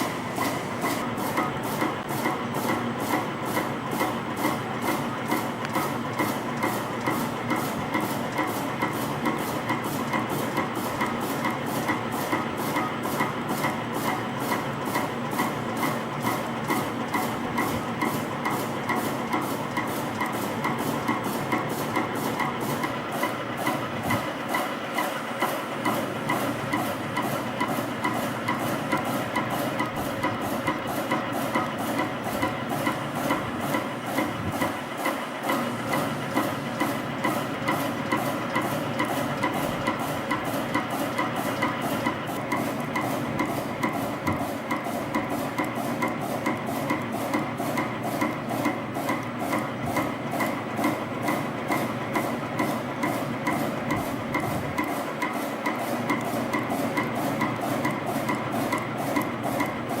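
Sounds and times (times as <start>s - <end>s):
spring coiling machine whirring: 0.0s - 60.0s.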